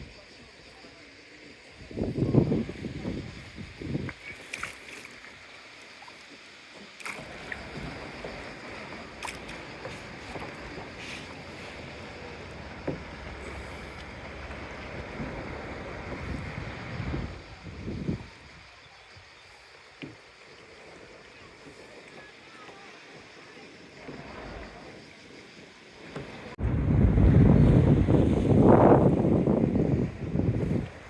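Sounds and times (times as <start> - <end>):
water sloshing around a kayak: 0.0 - 31.0.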